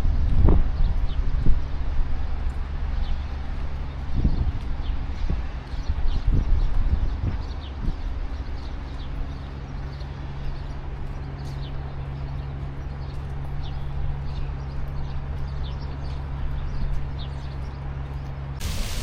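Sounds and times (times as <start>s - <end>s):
wash of street noise: 0.0s - 19.0s.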